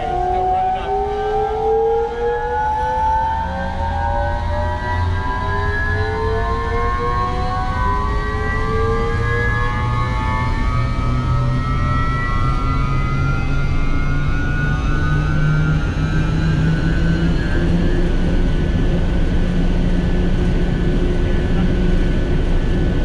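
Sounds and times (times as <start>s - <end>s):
large fan air rush: 0.0s - 23.0s
low motor hum: 0.0s - 23.0s
rising whining tones: 0.0s - 23.0s.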